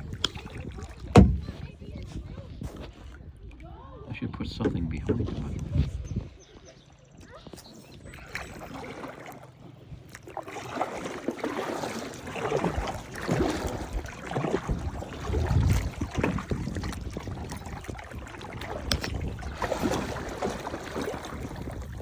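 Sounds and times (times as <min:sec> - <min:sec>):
paddle splashing in water: 0:00.0 - 0:03.7, 0:04.7 - 0:22.0.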